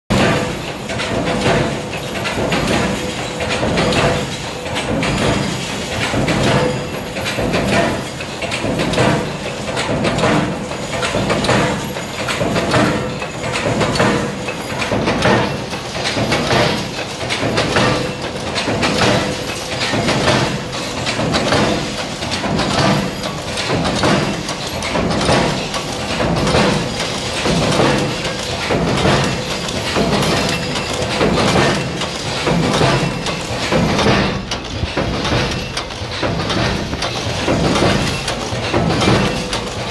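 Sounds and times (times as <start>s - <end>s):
rapid metallic machine clatter: 0.1s - 39.9s
steady machine hum: 0.1s - 39.9s.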